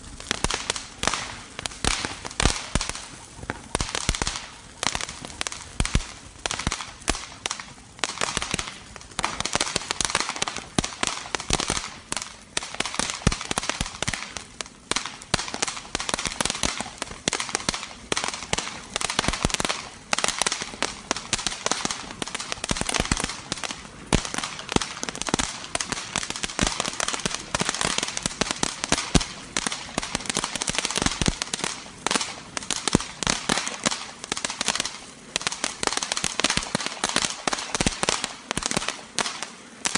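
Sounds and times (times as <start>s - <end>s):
crackling pops: 0.0s - 39.9s
firework fountain hissing: 0.0s - 39.9s.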